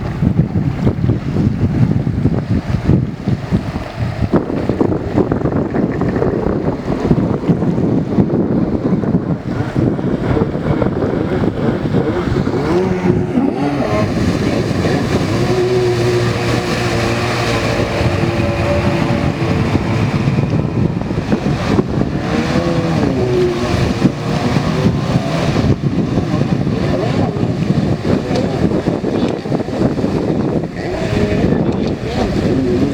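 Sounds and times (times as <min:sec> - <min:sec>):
jet ski engine revving: 0:00.0 - 0:32.9.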